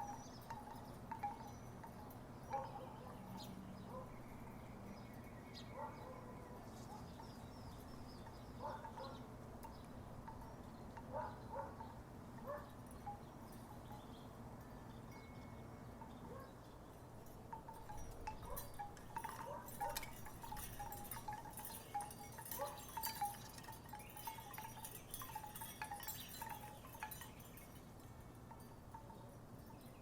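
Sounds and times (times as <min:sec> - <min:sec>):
wooden wind chimes clacking: 0:00.0 - 0:05.8, 0:06.7 - 0:30.0.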